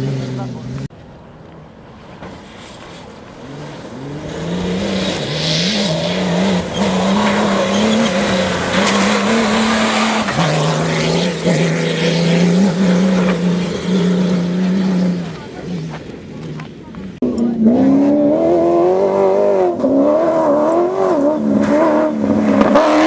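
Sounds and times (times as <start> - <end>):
rally car engine passing by: 1.9 - 23.0.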